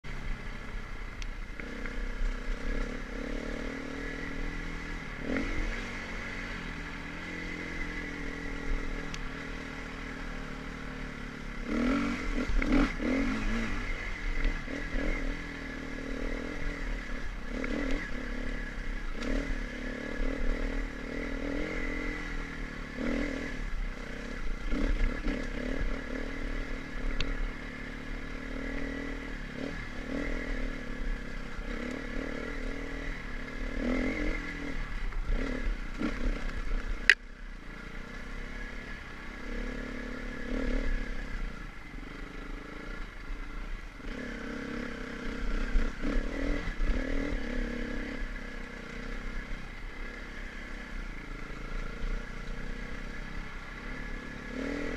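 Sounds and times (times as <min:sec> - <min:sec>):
dirt bike engine revving: 0:01.4 - 0:54.9.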